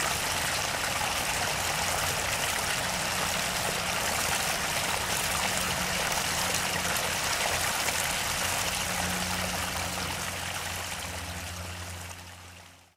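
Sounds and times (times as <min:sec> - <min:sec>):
low steady hum: 0:00.0 - 0:12.9
stream trickling over rocks: 0:00.0 - 0:12.9.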